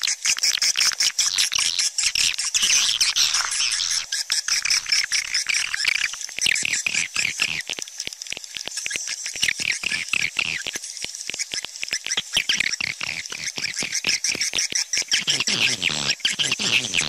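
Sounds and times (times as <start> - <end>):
swiftlets chirping and clicking: 0.0 - 17.0.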